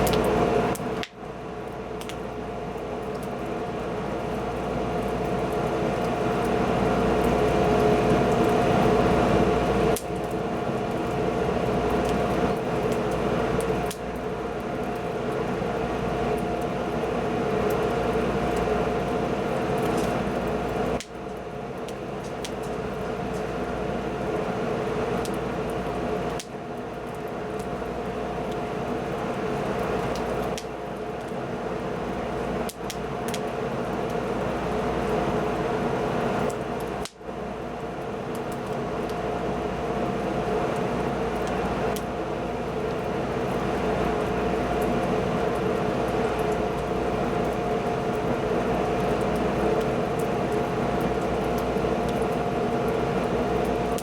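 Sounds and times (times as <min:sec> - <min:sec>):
fire crackles: 0:00.0 - 0:54.0
steady mechanical hum: 0:00.0 - 0:54.0
wood fire burning: 0:00.0 - 0:54.0.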